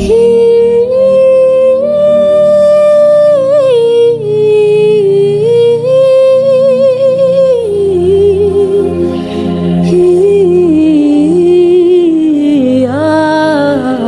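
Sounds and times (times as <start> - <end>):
low instrumental drone: 0.0 - 14.0
woman singing wordless melody: 0.0 - 14.0.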